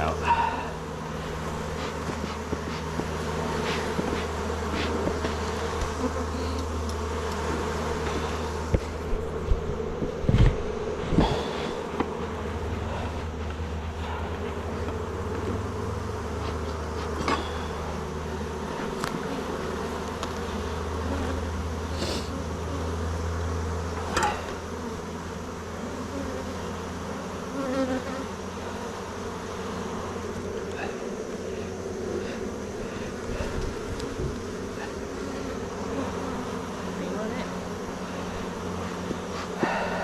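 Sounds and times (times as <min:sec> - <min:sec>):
honeybees buzzing: 0:00.0 - 0:40.0.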